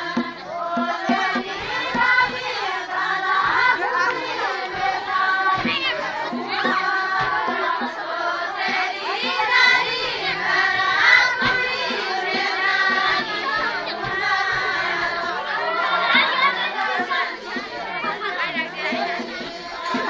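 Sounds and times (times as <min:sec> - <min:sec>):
group singing folk song in chorus: 0:00.0 - 0:20.0
low drum beats: 0:00.0 - 0:20.0.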